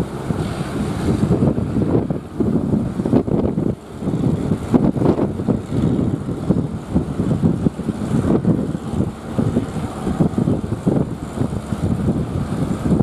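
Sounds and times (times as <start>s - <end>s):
breaking surf: 0.0s - 13.0s
wind buffeting microphone: 0.0s - 13.0s.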